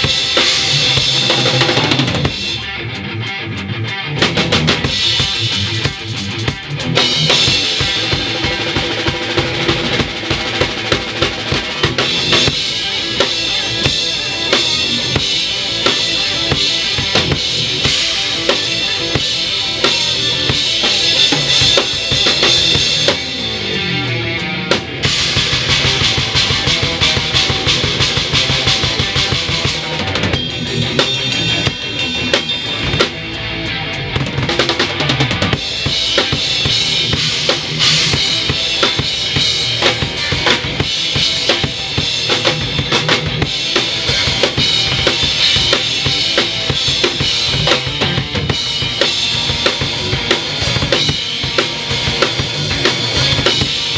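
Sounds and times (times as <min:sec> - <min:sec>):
drum kit: 0:00.0 - 0:53.9
rock band playing: 0:00.0 - 0:53.9.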